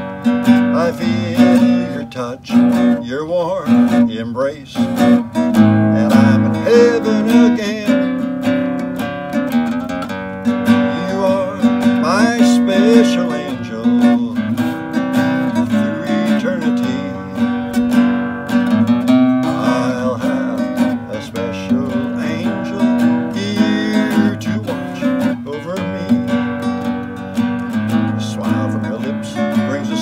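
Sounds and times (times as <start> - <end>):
classical guitar strumming: 0.0 - 30.0
man singing: 0.4 - 8.6, 10.6 - 18.0, 19.1 - 30.0.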